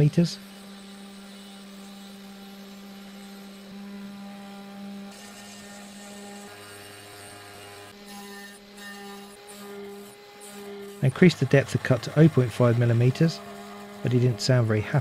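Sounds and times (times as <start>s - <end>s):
spindle motor whining: 0.0s - 15.0s.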